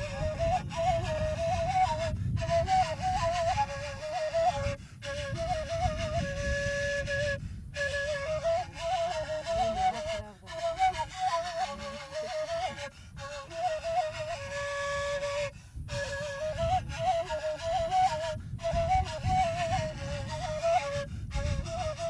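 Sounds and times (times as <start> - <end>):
solo flute melody: 0.0 - 22.0.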